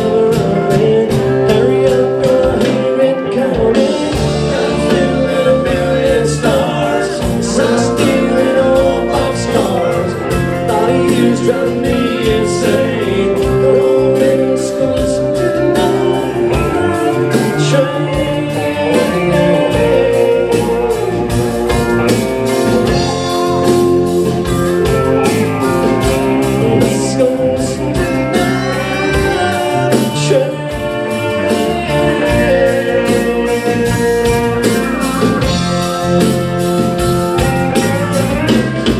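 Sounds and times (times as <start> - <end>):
guitar: 0.0 - 38.9
person singing: 0.0 - 38.9.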